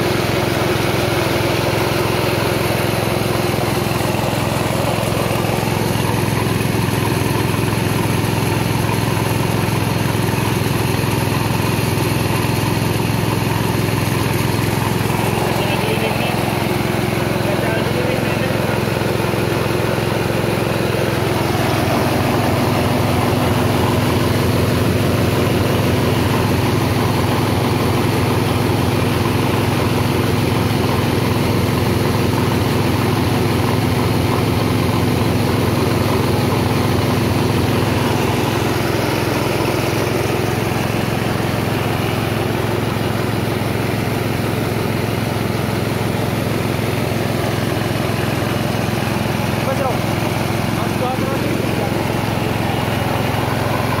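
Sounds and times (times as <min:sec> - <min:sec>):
rice milling machine running: 0:00.0 - 0:54.0.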